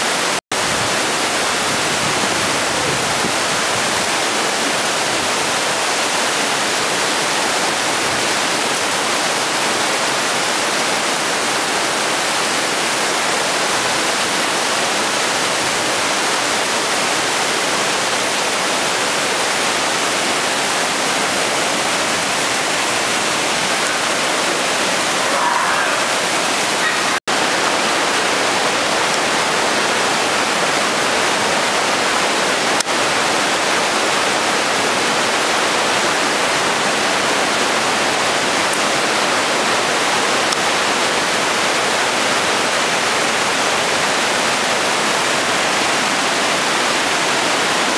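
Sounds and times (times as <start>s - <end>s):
water rushing through gorge: 0.0s - 47.9s.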